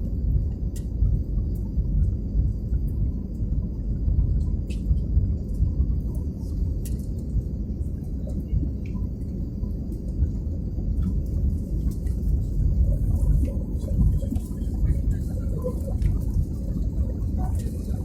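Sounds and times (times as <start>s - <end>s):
airliner engine rumble in cabin: 0.0s - 18.0s.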